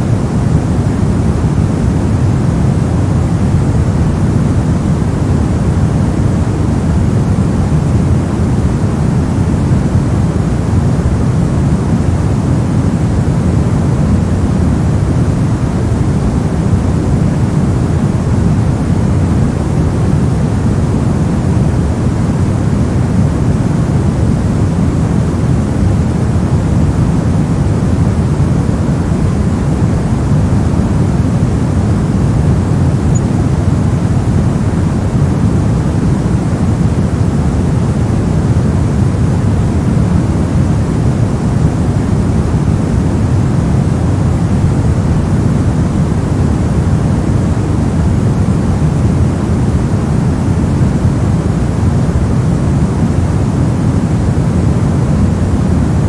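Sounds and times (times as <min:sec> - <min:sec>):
deep even white noise hiss: 0:00.0 - 0:56.0.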